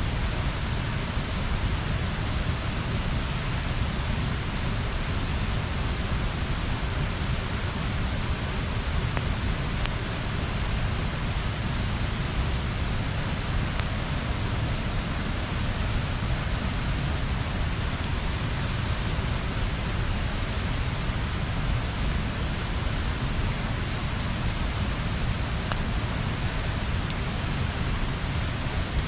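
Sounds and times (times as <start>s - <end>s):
bonfire hissing and rumbling: 0.0s - 29.0s
fire crackles: 0.0s - 29.0s.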